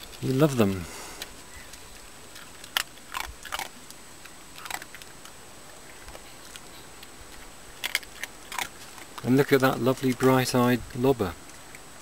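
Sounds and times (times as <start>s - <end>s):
dog crunching dry kibble: 0.0s - 11.9s
faint hiss: 0.0s - 12.0s.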